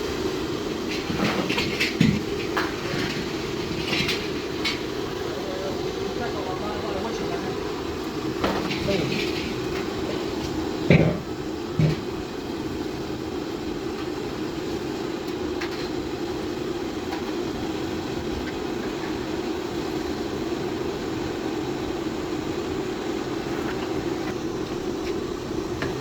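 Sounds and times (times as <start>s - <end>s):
steady rumbling noise: 0.0s - 26.0s.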